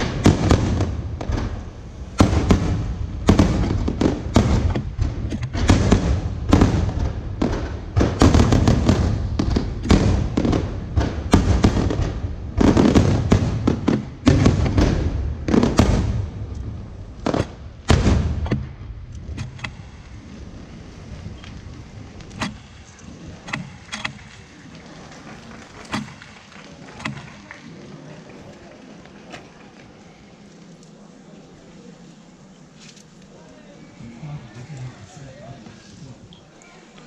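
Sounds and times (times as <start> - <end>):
fireworks bangs and pops: 0.0 - 30.3.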